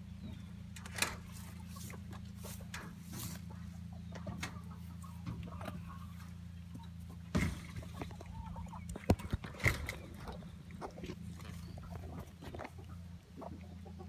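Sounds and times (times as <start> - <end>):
chickens clucking: 0.0 - 14.0
steady low hum: 0.0 - 14.0.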